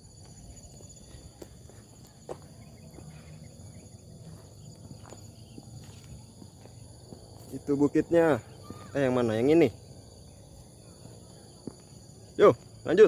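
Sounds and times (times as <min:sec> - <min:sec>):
footsteps on a trail: 0:00.0 - 0:13.0
insects chirring: 0:00.0 - 0:13.0.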